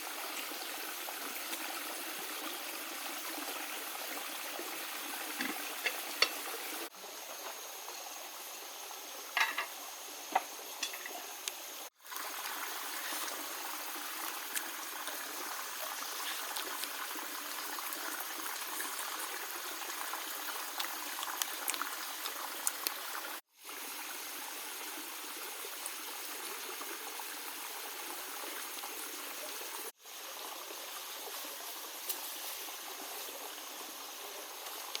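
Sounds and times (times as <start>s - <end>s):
rushing water: 0.0s - 6.9s, 11.8s - 35.0s.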